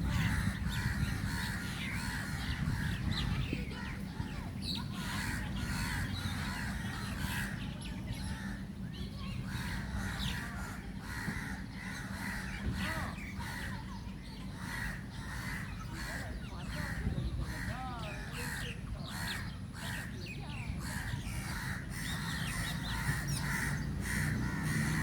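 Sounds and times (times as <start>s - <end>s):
flock of birds chirping: 0.0s - 25.0s
low background rumble: 0.0s - 25.0s.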